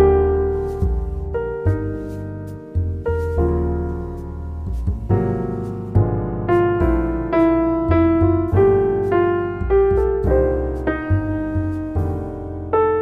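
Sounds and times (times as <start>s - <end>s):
calm piano melody: 0.0s - 13.0s.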